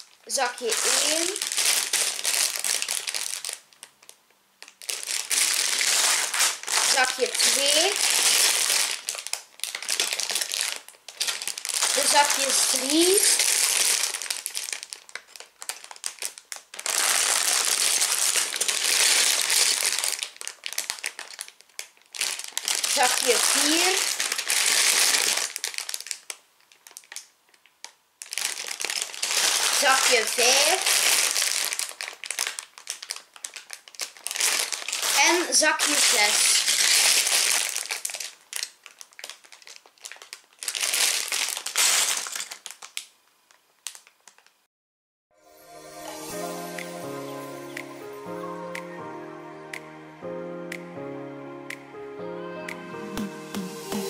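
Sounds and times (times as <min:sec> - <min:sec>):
plastic bags crinkling: 0:00.0 - 0:44.6.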